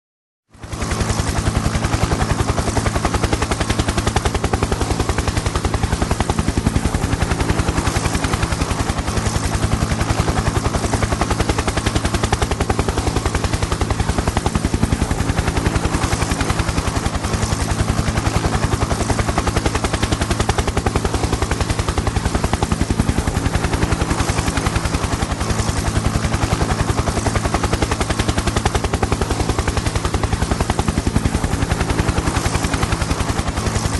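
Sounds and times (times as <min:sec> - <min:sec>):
helicopter rotor chopping: 0:00.6 - 0:33.9.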